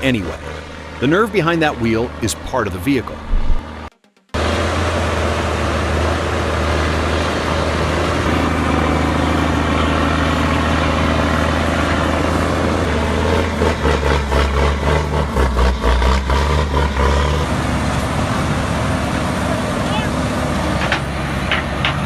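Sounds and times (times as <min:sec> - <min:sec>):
truck engine running under load: 0:00.0 - 0:22.0.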